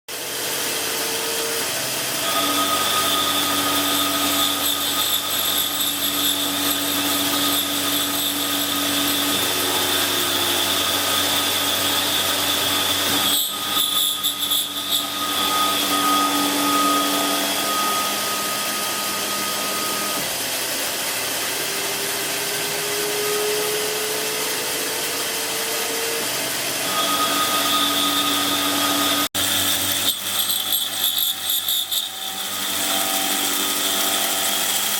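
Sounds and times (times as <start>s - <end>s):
milling machine cutting: 0.1s - 34.9s
whining tones: 1.2s - 20.3s, 21.5s - 34.7s.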